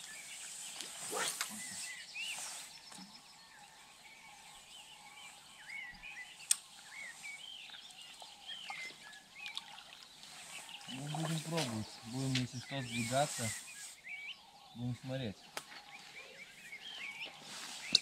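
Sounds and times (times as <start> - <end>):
birds chirping and singing: 0.0 - 18.0.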